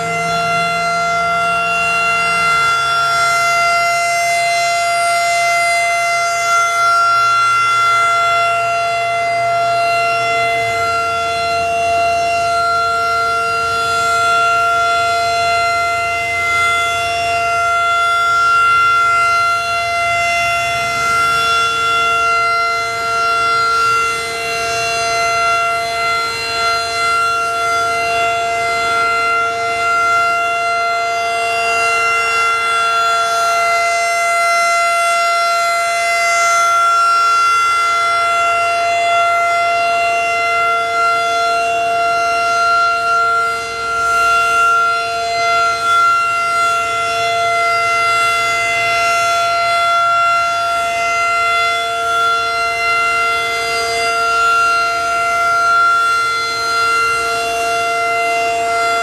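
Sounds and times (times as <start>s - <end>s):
rotating siren steady tone: 0.0s - 59.0s.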